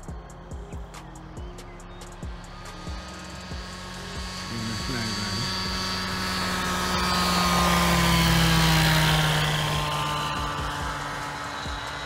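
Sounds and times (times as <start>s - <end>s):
ultralight aircraft engine drone: 0.0s - 12.0s.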